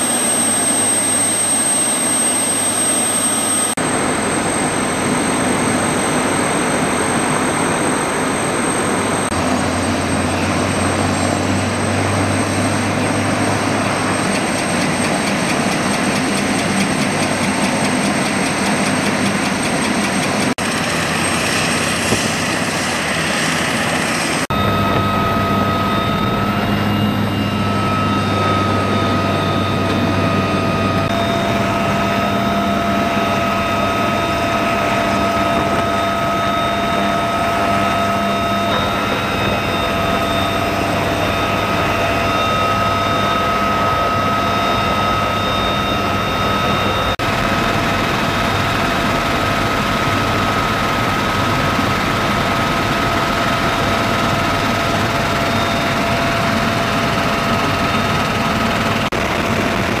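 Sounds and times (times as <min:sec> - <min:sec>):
helicopter turbine whine and drone: 0:00.0 - 1:00.0.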